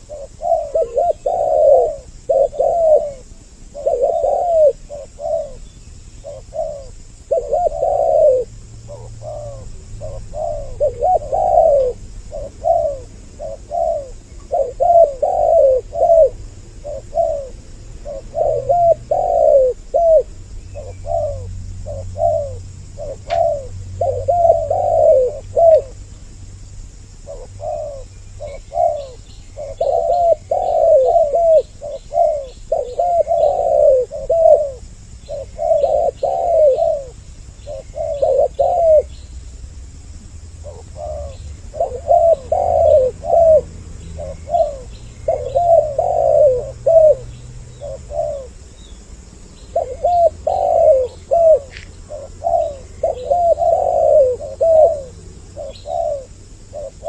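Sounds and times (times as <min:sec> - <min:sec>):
doves cooing: 0:00.0 - 0:26.3, 0:27.2 - 0:39.3, 0:40.2 - 0:57.0
small birds chirping: 0:00.0 - 0:57.0.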